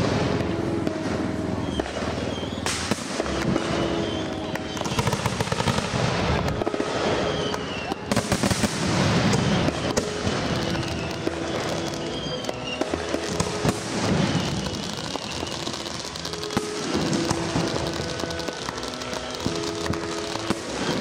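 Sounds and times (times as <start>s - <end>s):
fireworks bangs and crackling: 0.0s - 21.0s
music playing: 0.0s - 21.0s.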